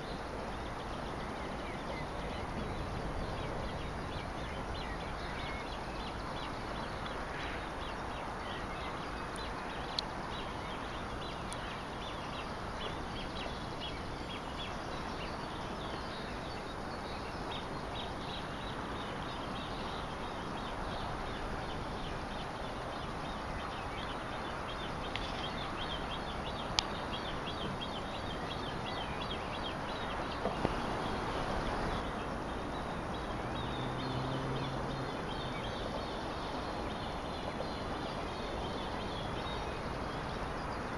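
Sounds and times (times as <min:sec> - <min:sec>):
steady outdoor hiss: 0:00.0 - 0:40.9.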